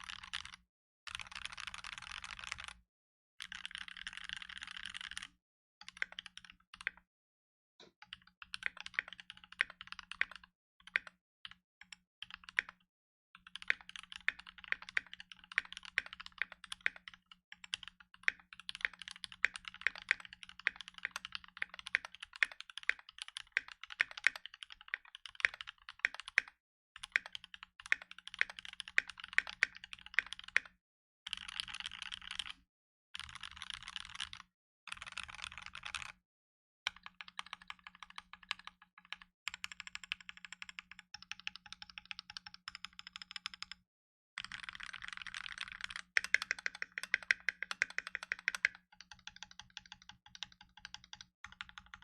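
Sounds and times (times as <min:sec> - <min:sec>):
mechanical keyboard typing: 0:00.0 - 0:02.8, 0:03.4 - 0:07.0, 0:08.0 - 0:11.2, 0:13.4 - 0:32.6, 0:33.2 - 0:36.2, 0:36.9 - 0:43.8, 0:44.4 - 0:52.0.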